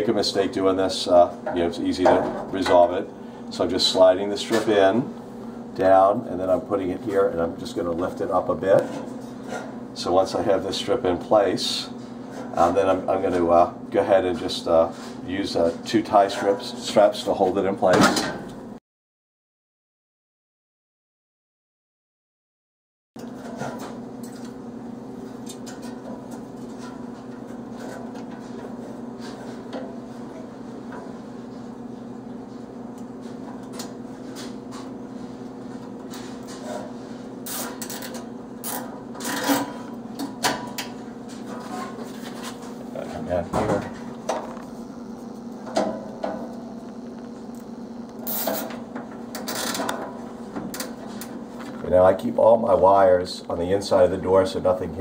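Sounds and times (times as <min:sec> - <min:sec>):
steady low hum: 0:00.0 - 0:18.8, 0:23.2 - 0:55.0.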